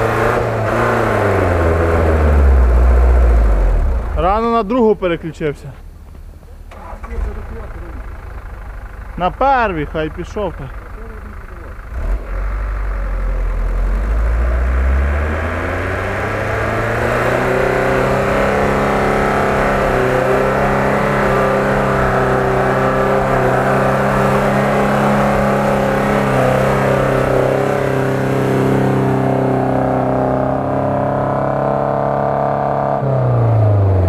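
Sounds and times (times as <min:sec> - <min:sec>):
vehicle engine: 0:00.0 - 0:34.0.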